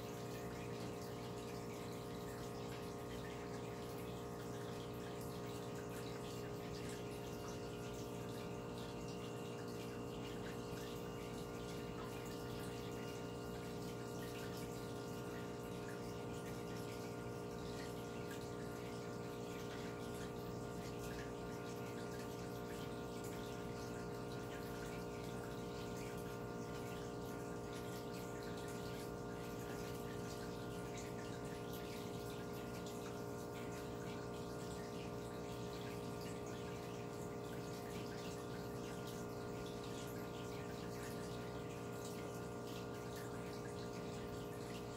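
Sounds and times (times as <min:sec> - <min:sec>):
aquarium pumps humming: 0:00.0 - 0:44.9.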